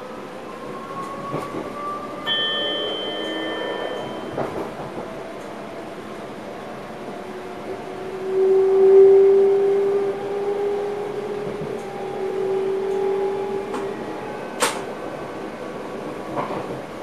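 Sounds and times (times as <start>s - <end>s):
electric train traction whine: 0.0s - 15.2s.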